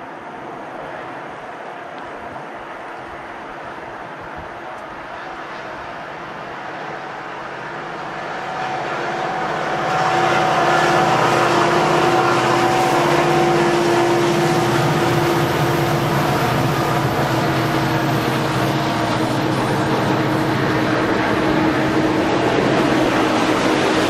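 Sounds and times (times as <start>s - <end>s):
diesel locomotive engines: 0.0s - 24.0s
freight cars rolling on rails: 0.0s - 24.0s.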